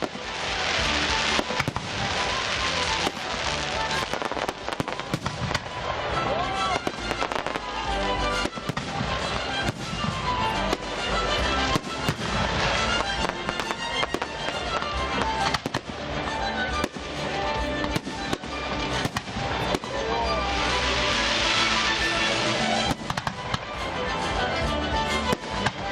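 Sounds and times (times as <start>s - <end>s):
background music: 0.0s - 25.9s.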